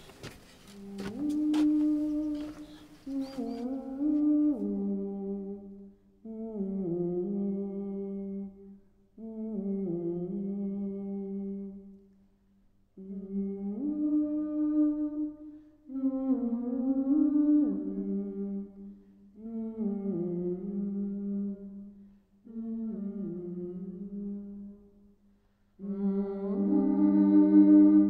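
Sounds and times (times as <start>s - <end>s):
person humming a melody: 0.7s - 12.0s, 13.0s - 25.0s, 25.8s - 28.0s.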